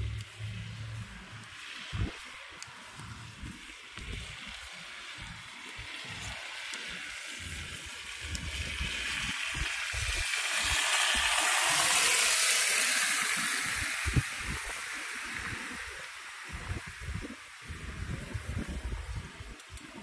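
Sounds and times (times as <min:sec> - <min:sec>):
tyre hiss on slush: 0:00.0 - 0:19.9.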